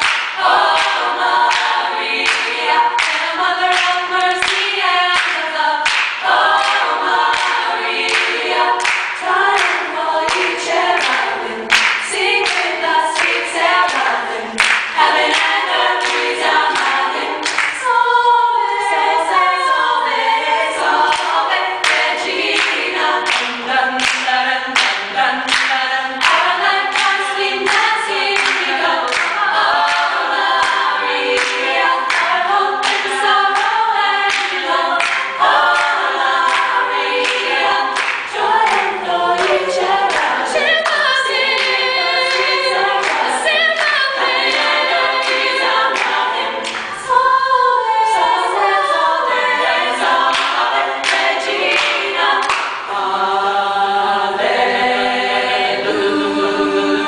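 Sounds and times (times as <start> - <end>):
hand clapping on the beat: 0.0 - 17.9, 20.8 - 47.0, 49.4 - 53.0
women singing in close harmony: 0.0 - 57.0.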